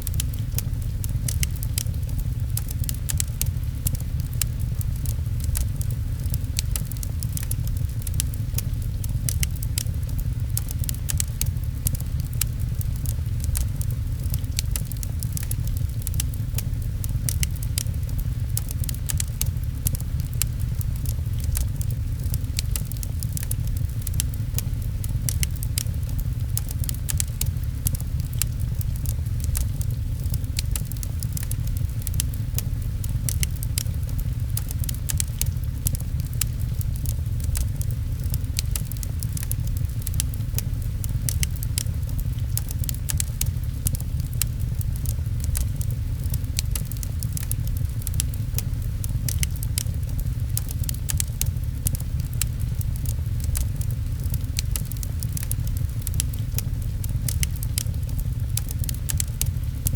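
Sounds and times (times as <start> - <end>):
fireplace fire crackling: 0.0 - 59.9
rain: 0.0 - 59.9.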